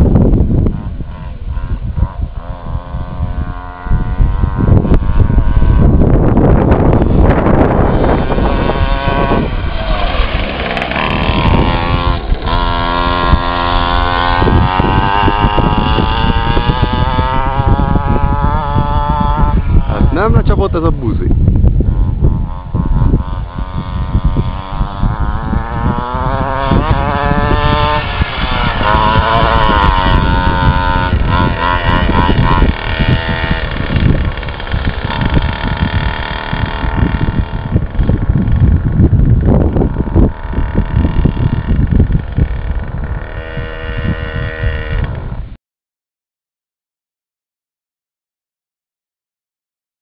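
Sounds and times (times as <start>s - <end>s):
small two-stroke engine revving: 0.0s - 45.6s.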